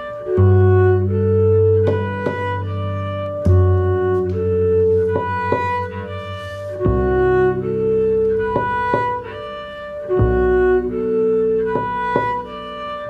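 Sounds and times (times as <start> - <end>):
double bass playing: 0.0 - 13.0.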